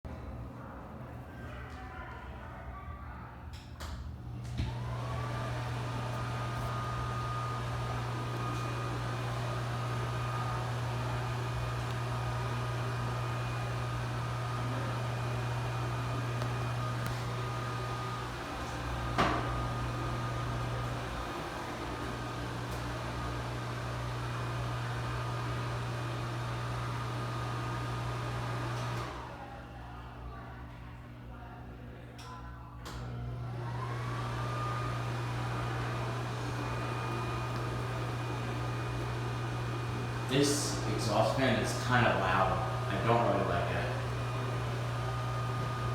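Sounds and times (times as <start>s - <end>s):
fan hum: 0.1s - 45.9s
exhaust fan motor whine: 3.2s - 45.9s.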